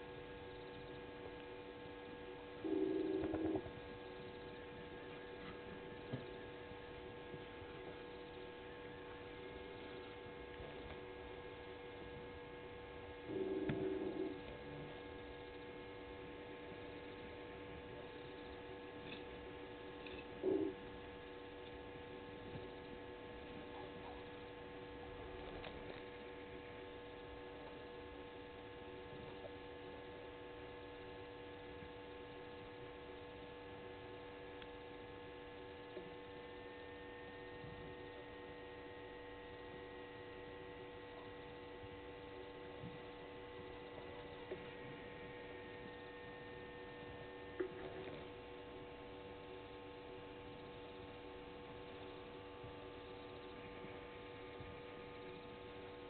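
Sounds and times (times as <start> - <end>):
electrical hum: 0.0 - 56.0
faint high whine: 0.0 - 56.0.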